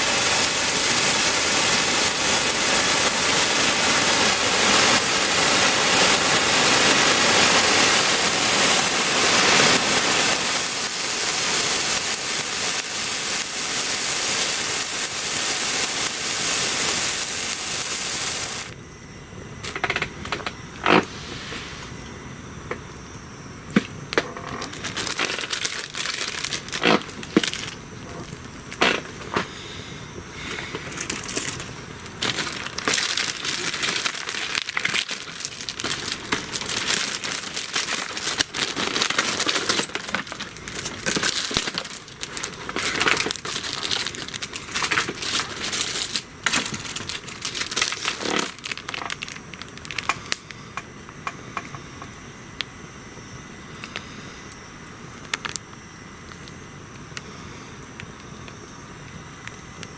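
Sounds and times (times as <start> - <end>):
bonfire crackling: 0.0 - 59.9
loud hiss: 0.0 - 59.9.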